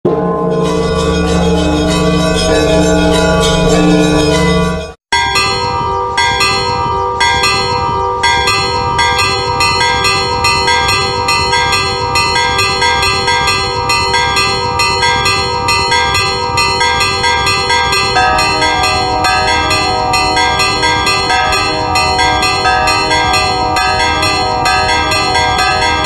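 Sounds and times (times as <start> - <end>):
church bells ringing: 0.1 - 26.0
music intro with sustained tones: 0.1 - 26.0.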